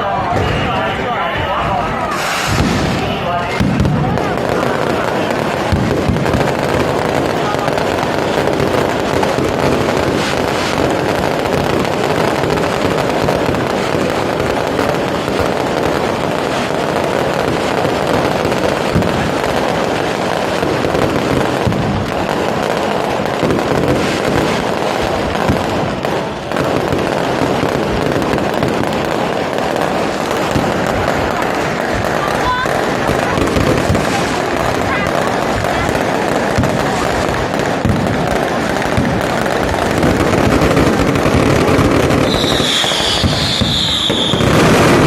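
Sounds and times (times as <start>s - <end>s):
firecrackers crackling: 0.0s - 45.0s.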